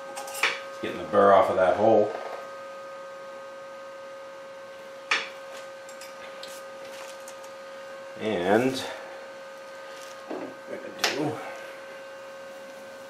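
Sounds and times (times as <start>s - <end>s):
workshop hum with steady tones: 0.0s - 13.0s.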